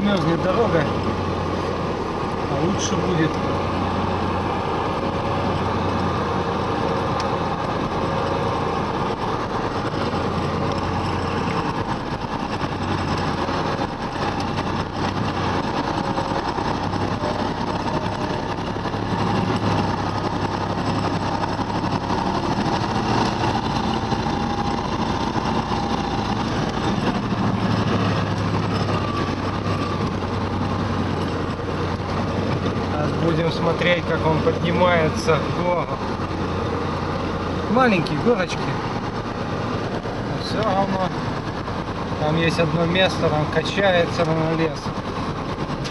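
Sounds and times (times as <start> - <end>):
road and body noise: 0.0 - 45.9
truck engine droning: 0.0 - 45.9.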